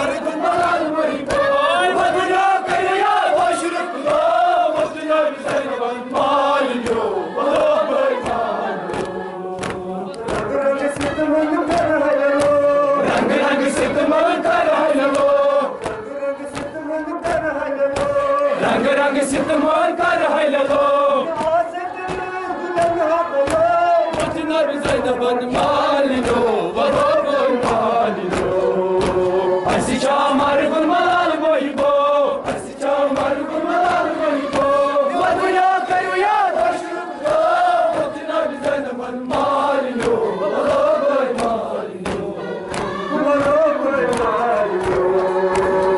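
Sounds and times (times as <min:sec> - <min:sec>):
men chanting in unison: 0:00.0 - 0:45.9
chest-beating slaps: 0:00.5 - 0:19.7, 0:20.6 - 0:45.9.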